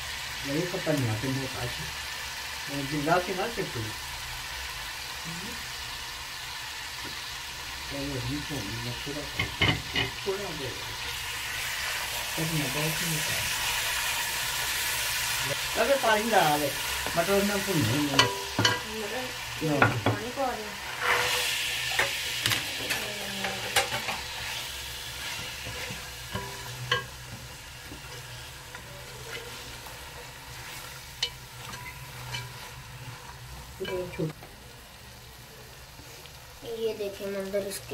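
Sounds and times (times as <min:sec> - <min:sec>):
spices sizzling in hot oil: 0:00.0 - 0:37.9.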